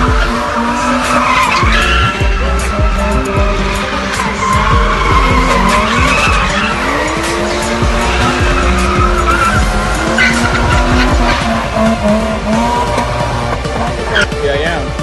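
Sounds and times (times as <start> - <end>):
car engine revving: 0.0 - 15.0
tyres squealing: 0.0 - 15.0.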